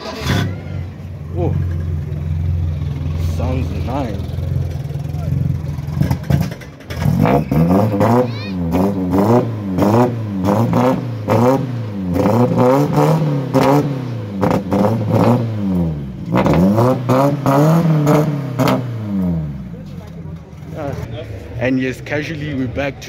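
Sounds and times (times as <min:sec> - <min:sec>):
car engine revving in blips: 0:00.0 - 0:21.1.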